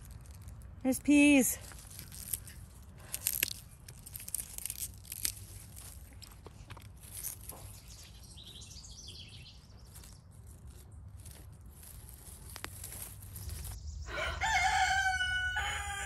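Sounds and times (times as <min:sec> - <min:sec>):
vines crackling and tearing: 0:00.0 - 0:16.0.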